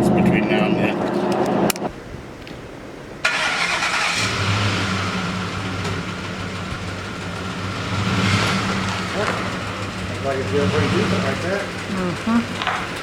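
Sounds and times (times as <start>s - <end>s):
truck engine starting and running rough: 0.0s - 1.9s, 3.2s - 13.0s.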